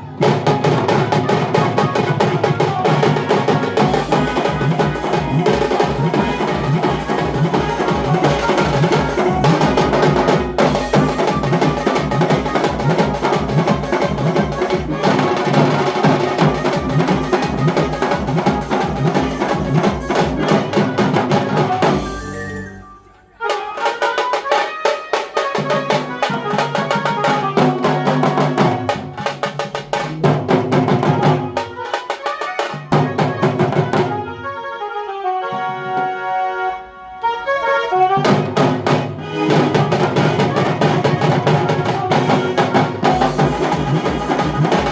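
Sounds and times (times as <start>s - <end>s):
fast driving drumming: 0.0s - 22.4s, 25.5s - 34.2s, 38.2s - 44.9s
melody over drums: 0.0s - 34.4s, 38.2s - 44.9s.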